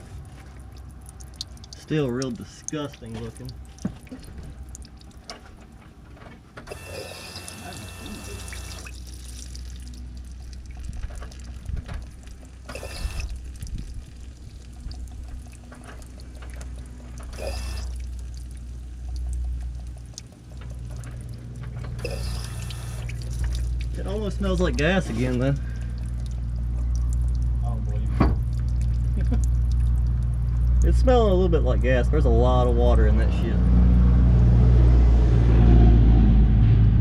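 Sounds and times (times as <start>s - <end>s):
gasoline pouring and splashing: 0.0s - 33.4s
fuel pump hum: 0.0s - 34.5s.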